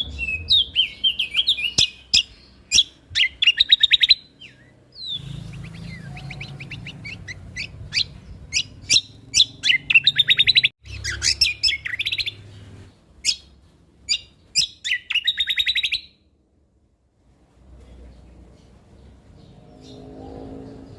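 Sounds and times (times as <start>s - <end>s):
songbird singing: 0.0s - 16.4s, 17.7s - 20.9s.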